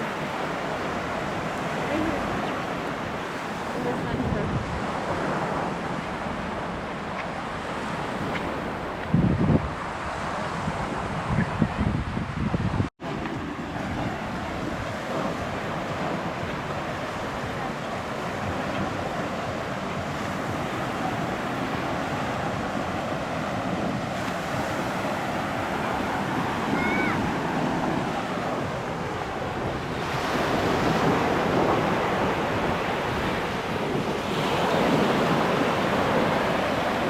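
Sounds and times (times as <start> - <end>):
surf washing onto beach: 0.0 - 12.4, 13.0 - 37.0
wind buffeting microphone: 0.0 - 37.0.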